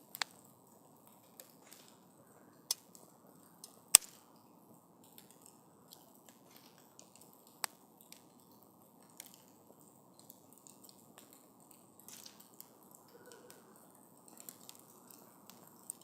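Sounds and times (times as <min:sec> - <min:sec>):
faint steady hiss: 0:00.0 - 0:16.0
wood fire crackling and popping: 0:00.0 - 0:16.0.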